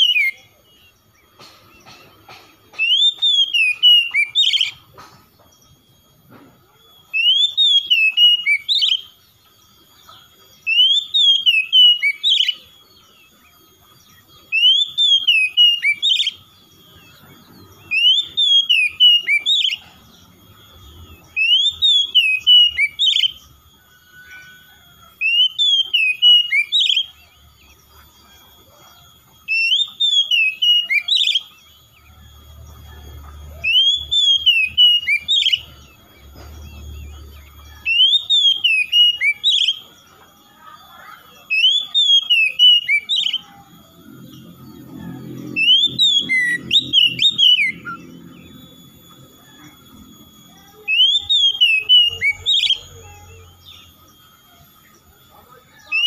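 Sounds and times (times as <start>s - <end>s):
bird whistling warbling song: 0.0s - 56.0s.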